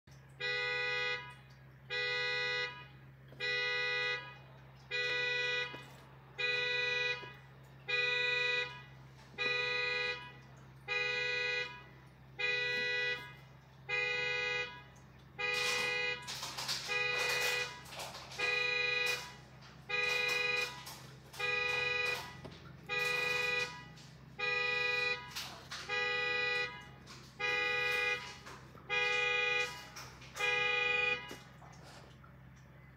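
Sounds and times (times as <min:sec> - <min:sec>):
car horn blaring: 0:00.3 - 0:32.2.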